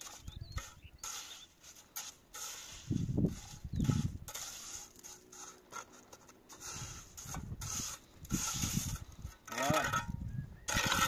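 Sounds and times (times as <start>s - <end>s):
trowel scraping mortar: 0.0s - 11.0s.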